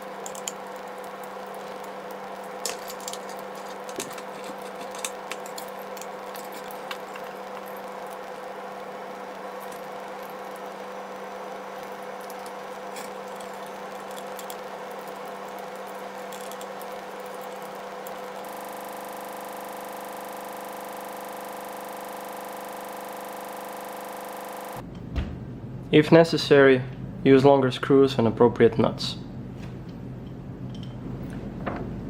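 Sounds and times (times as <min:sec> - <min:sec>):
steady hum with fixed tones: 0:00.0 - 0:32.0.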